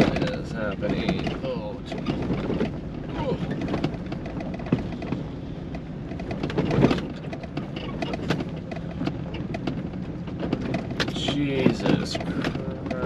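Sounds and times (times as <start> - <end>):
knocks and rattles in cab: 0.0 - 13.0
truck engine and tyres rumbling: 0.0 - 13.0.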